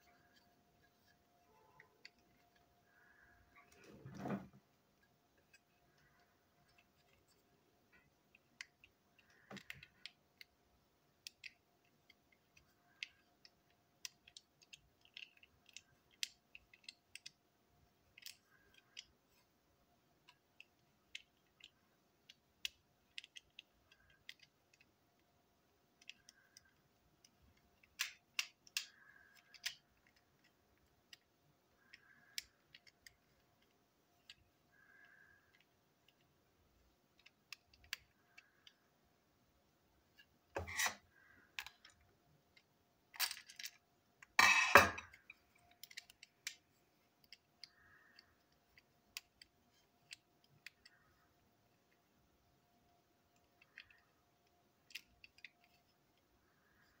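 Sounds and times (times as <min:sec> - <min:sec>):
plastic toy parts clicking: 0:05.3 - 0:19.4, 0:20.0 - 0:38.9, 0:40.0 - 0:52.1, 0:53.2 - 0:57.0.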